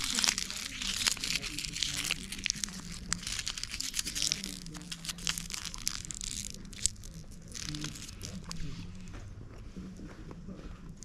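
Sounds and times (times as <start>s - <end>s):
chocolate wrapper crinkling: 0.0s - 9.1s.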